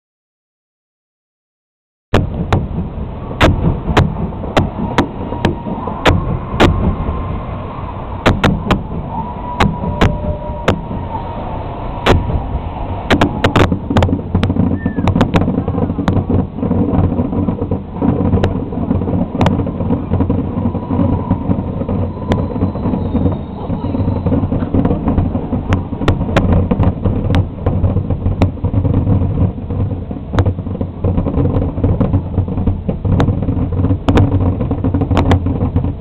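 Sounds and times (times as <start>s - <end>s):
fireworks bangs: 2.1s - 36.0s
low rumble: 2.2s - 36.0s.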